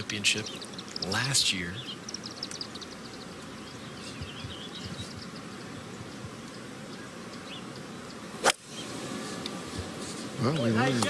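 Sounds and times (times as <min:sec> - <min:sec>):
faint high bird chirps: 0:00.0 - 0:09.0
steady low hiss: 0:00.0 - 0:11.0.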